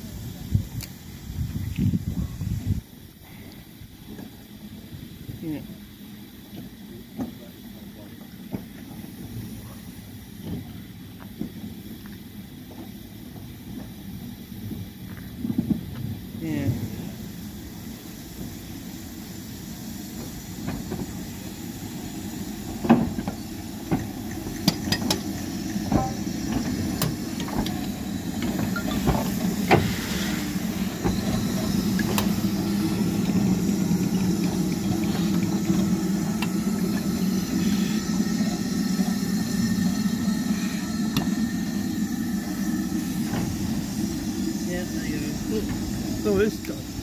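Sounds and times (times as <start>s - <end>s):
steam hissing: 0.0s - 47.0s.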